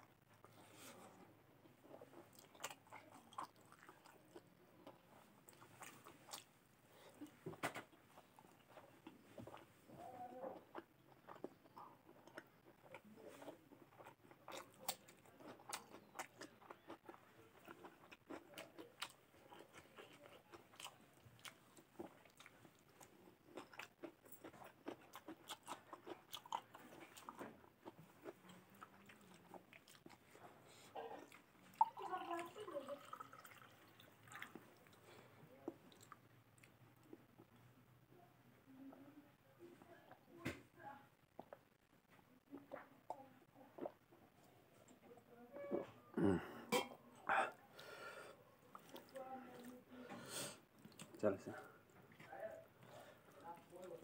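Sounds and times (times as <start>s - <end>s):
close chewing of food: 0.0s - 38.1s, 41.1s - 45.1s, 46.0s - 54.0s.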